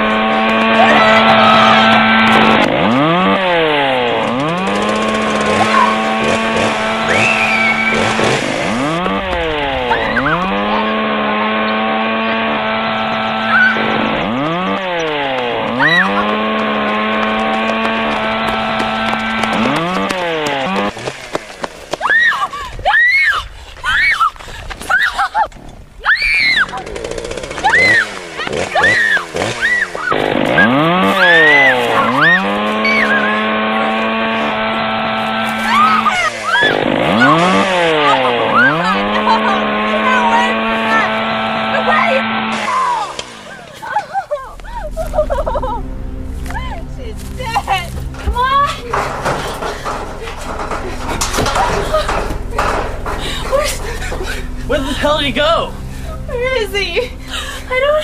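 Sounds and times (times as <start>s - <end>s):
chainsaw engine revving: 0.0s - 22.5s, 25.6s - 58.0s.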